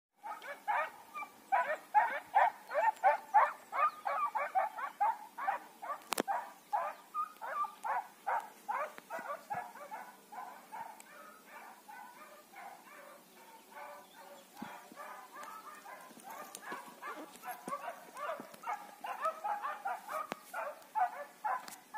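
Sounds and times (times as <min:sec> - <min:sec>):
hounds baying: 0:00.2 - 0:21.9.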